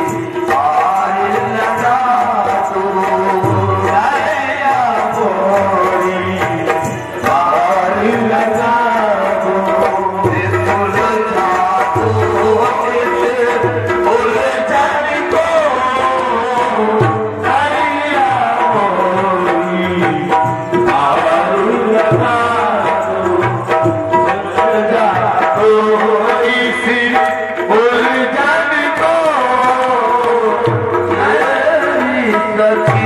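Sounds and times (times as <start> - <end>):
tabla strokes: 0.0 - 33.0.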